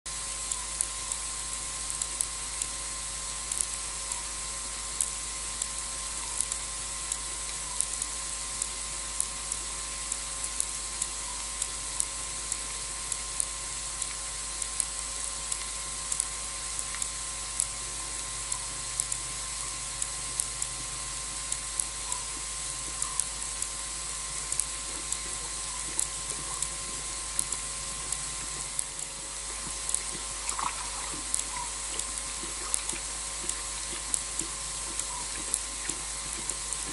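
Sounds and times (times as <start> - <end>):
steady high hiss: 0.1 - 36.9
faint ticks: 0.2 - 36.9.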